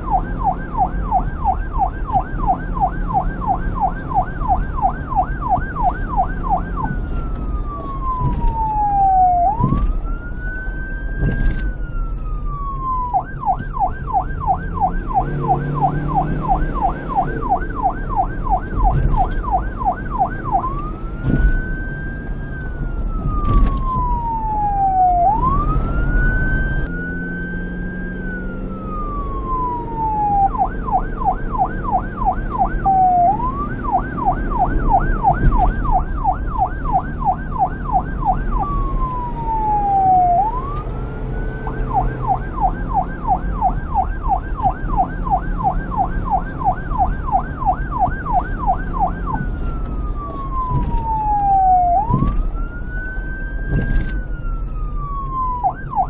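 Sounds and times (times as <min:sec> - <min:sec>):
electronic police siren: 0:00.0 - 0:56.0.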